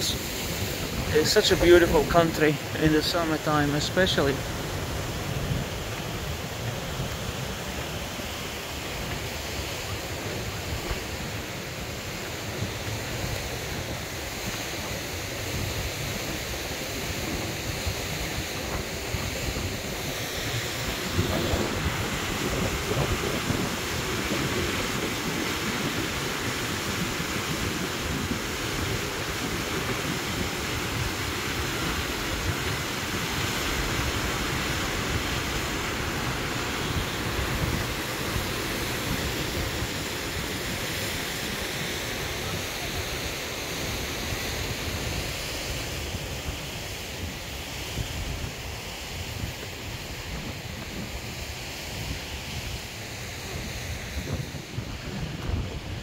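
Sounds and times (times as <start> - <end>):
waterfall rushing: 0.0 - 56.0
wind buffeting microphone: 0.0 - 56.0.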